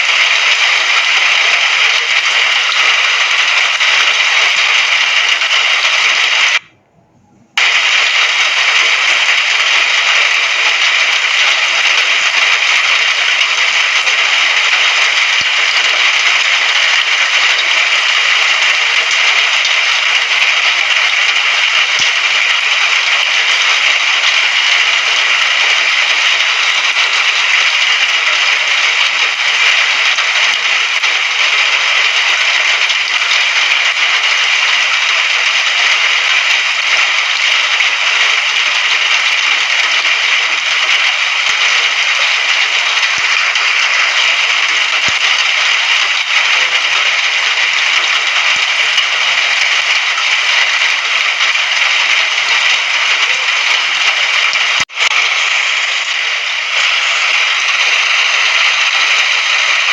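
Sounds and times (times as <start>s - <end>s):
heavy rain hissing: 0.0s - 6.8s, 7.5s - 59.9s.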